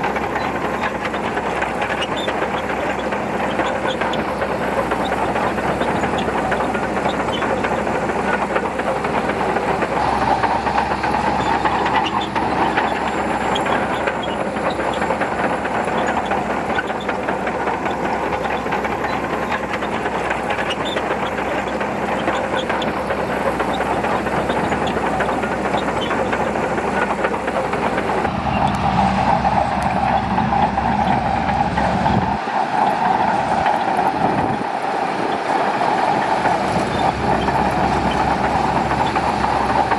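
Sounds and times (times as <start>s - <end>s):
diesel engine under load: 0.0s - 39.9s
steel tracks clattering: 0.0s - 39.9s.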